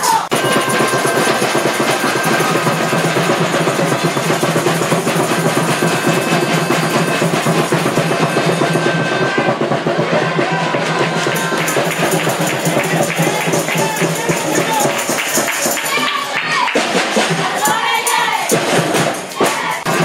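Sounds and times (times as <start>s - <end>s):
drum and percussion music: 0.0s - 20.0s.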